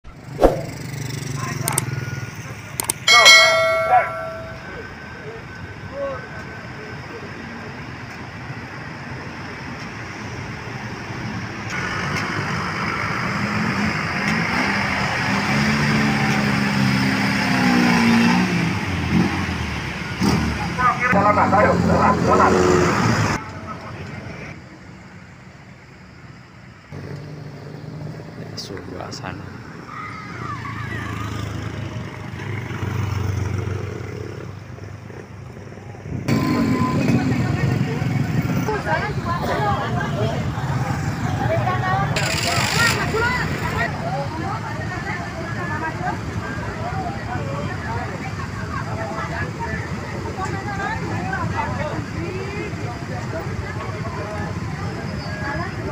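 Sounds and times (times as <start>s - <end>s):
passing traffic: 0.0s - 55.9s
bus engine droning: 0.8s - 33.6s, 34.8s - 55.9s.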